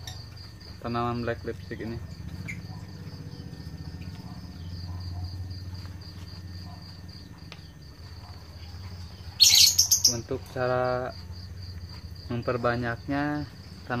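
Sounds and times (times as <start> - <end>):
insect chirping: 0.0 - 14.0.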